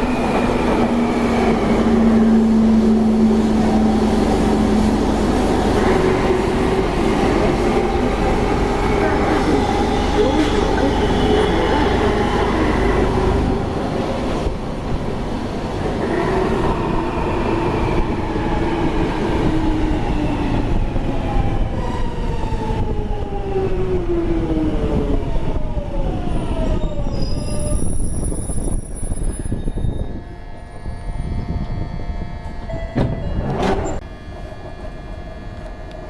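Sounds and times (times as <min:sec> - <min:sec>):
train wheels rumbling on track: 0:00.0 - 0:30.2.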